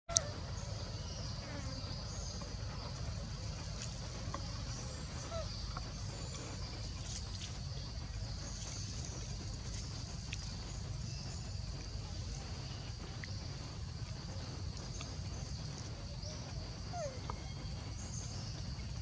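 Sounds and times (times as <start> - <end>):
insects chorus: 0.1 - 19.0
low rumble: 0.1 - 19.0.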